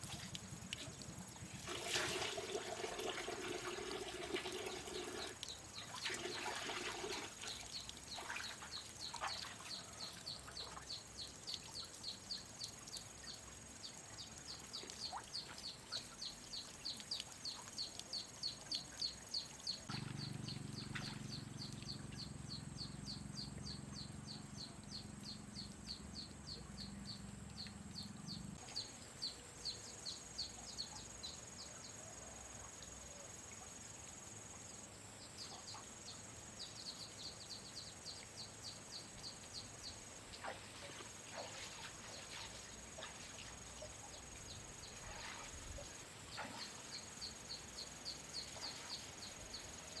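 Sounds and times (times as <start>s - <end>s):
insects chirping: 0.5s - 50.0s.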